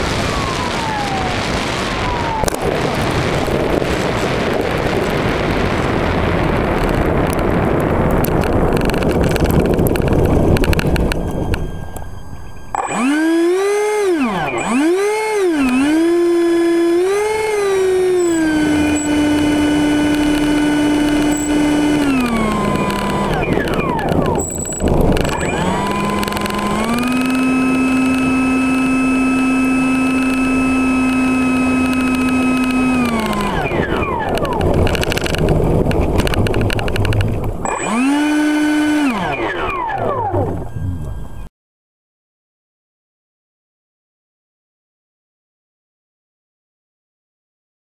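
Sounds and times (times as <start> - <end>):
electric ducted-fan motor whine: 0.0 - 41.5.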